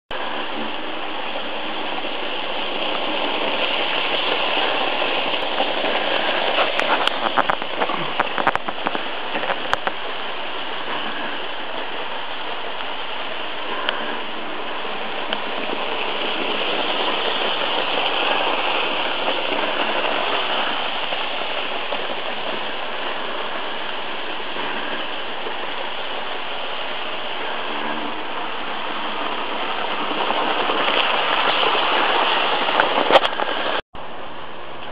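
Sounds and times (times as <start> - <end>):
model train whirring on track: 0.1 - 34.9.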